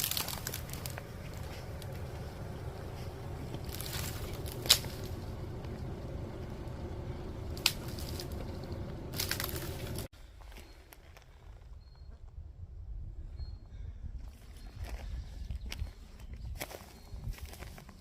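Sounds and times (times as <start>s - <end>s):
engine and tyre rumble: 0.0s - 12.2s, 14.2s - 18.0s.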